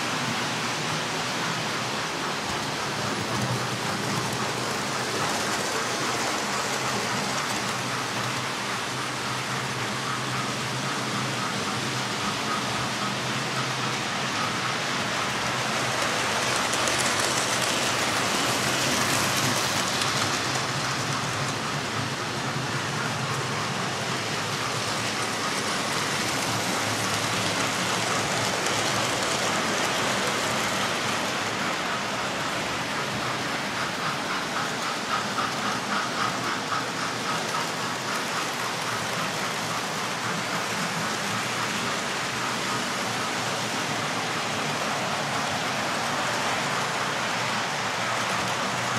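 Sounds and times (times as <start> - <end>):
model train motors whirring: 0.0 - 48.9.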